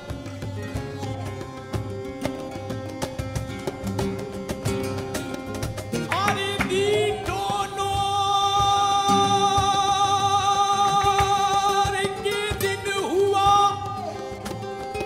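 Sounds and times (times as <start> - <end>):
sharp percussion clicks: 0.0 - 15.0.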